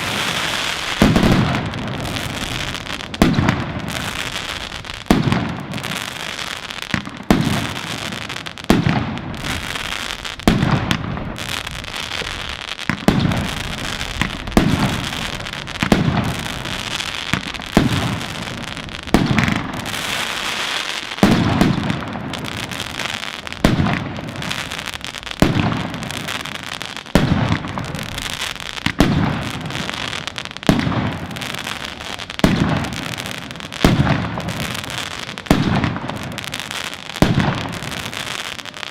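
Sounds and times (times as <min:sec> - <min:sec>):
fireworks booming: 0:00.0 - 0:38.9
fireworks crackling: 0:00.0 - 0:38.9.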